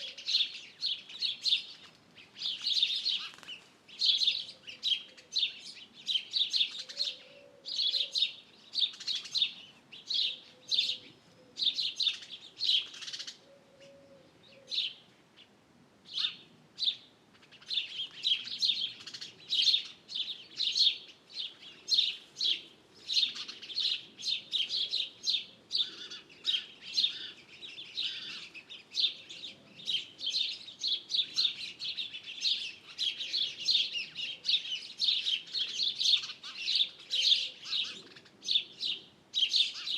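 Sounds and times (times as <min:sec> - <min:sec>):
birds chirping and singing: 0:00.0 - 0:15.5, 0:16.1 - 0:39.9.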